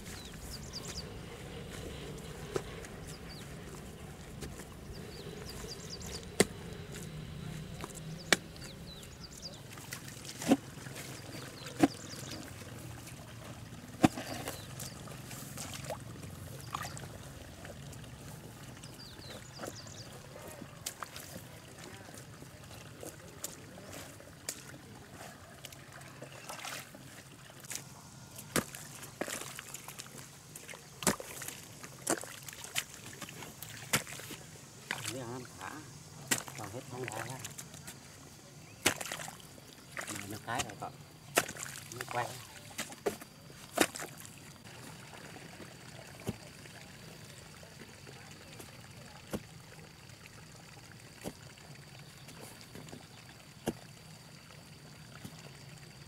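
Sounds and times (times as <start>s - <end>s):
water trickling and sloshing: 0.0s - 56.0s.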